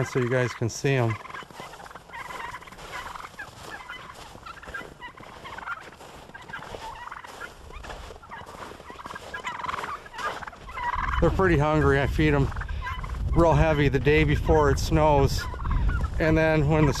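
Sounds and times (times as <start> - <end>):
poultry calling: 0.0 - 17.0.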